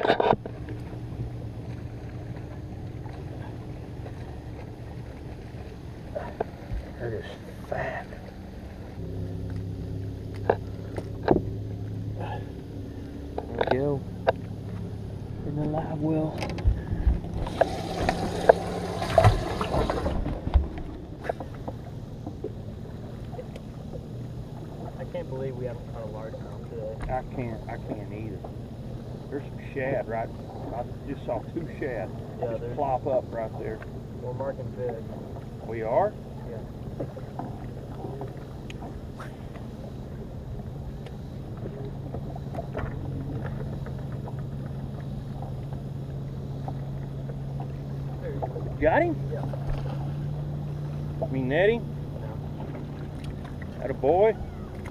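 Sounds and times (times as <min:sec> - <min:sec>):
boat low hum: 0:00.0 - 0:54.9
water splashing: 0:00.0 - 0:54.9
wind and water wash: 0:00.0 - 0:54.9.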